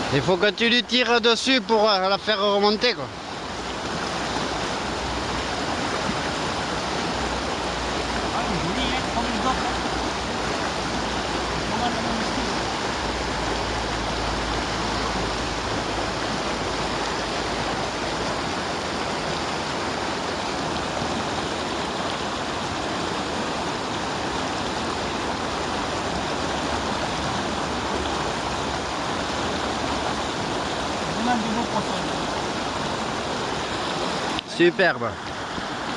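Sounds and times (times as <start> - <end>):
river current rushing: 0.0 - 35.9.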